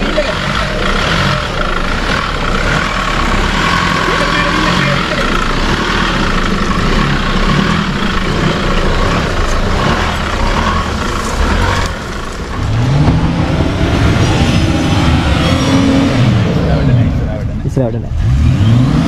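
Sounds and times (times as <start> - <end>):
vehicle engine running under load: 0.0 - 19.0.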